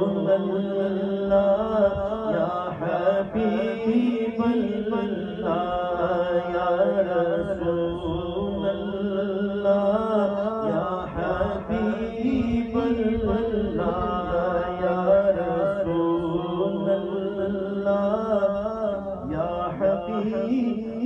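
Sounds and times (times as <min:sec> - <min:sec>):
man singing through microphone: 0:00.0 - 0:21.0.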